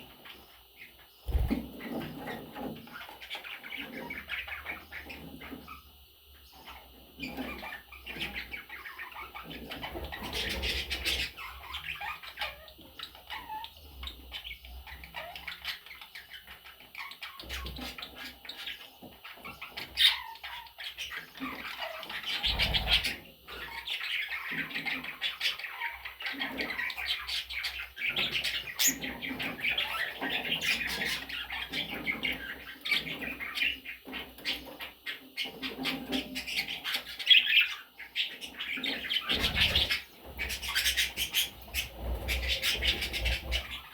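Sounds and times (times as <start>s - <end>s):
budgerigars chattering and chirping: 0.0s - 43.9s.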